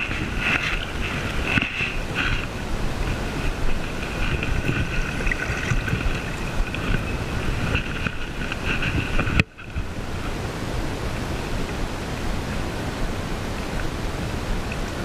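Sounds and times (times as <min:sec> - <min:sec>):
river water flowing: 0:00.0 - 0:15.0
wind buffeting microphone: 0:00.0 - 0:15.0.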